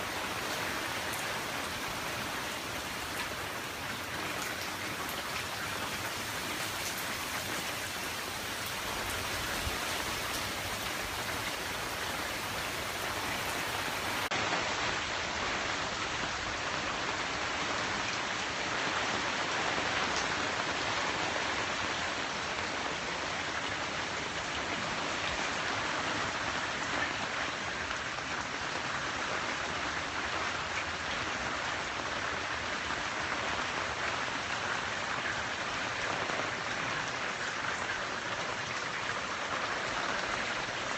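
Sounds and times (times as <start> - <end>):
hard rain falling: 0.0 - 40.9.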